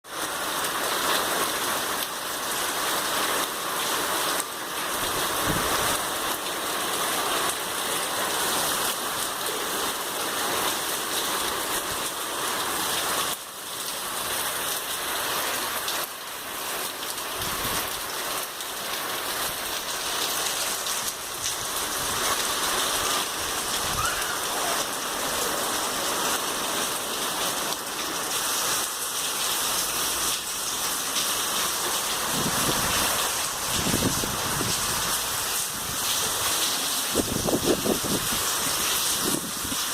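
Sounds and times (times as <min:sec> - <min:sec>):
rain pattering on surfaces: 0:00.1 - 0:39.9.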